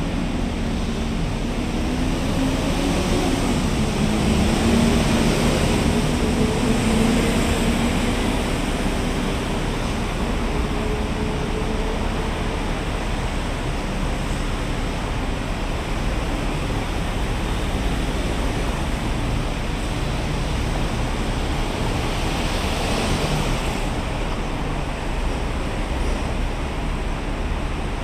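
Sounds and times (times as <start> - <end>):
highway traffic noise: 0.0 - 28.0.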